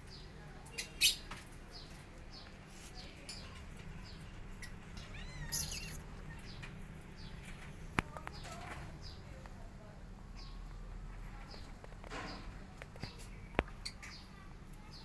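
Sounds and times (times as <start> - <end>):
small bird chirping: 0.0 - 9.4, 10.3 - 15.0.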